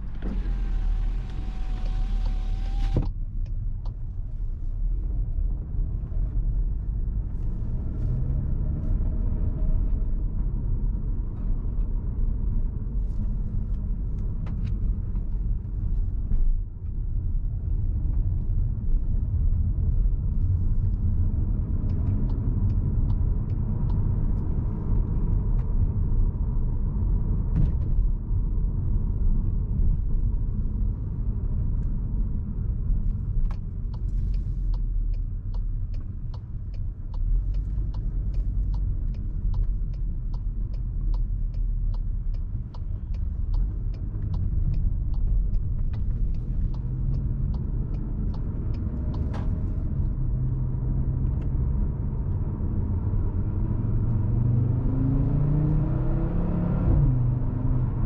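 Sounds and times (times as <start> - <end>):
car engine while driving: 0.0 - 58.0
road rumble: 0.0 - 58.0.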